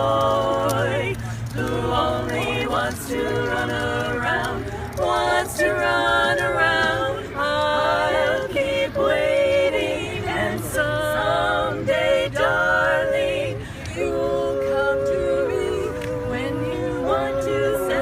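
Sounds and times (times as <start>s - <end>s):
voices singing in harmony: 0.0s - 18.0s.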